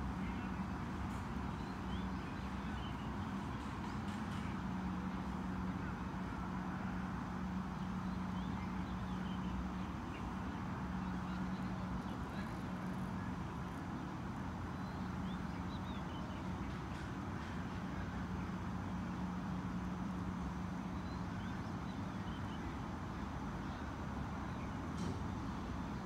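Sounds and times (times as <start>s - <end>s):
machine-like background hum: 0.0s - 26.0s.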